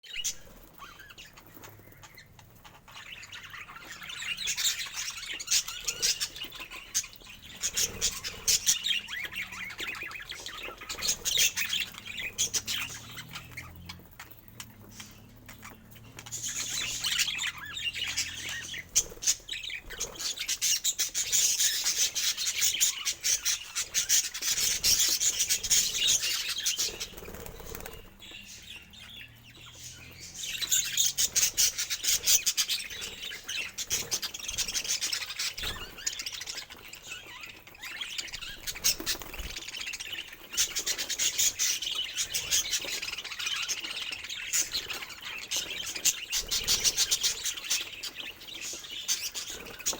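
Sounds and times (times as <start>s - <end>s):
budgies chirping: 0.0s - 49.9s
beaks crunching food: 0.2s - 49.9s.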